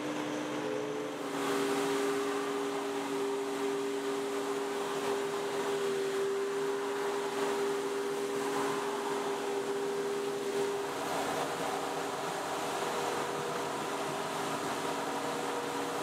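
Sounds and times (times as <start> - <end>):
street sweeper running: 0.0 - 16.0.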